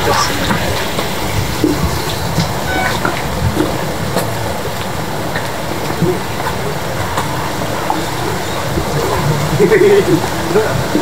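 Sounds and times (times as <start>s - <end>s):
rumbling background noise: 0.0s - 11.0s.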